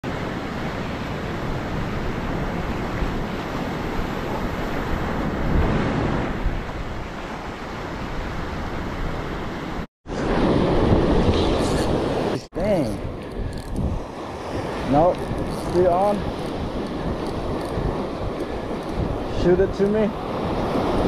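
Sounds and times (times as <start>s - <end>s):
ocean surf on beach: 0.0s - 21.0s.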